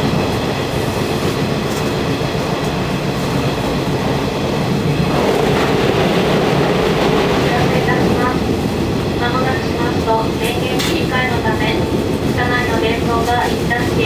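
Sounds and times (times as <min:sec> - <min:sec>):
rail clickety-clack: 0:00.0 - 0:14.0
train wheels rumbling on rails: 0:00.0 - 0:14.0.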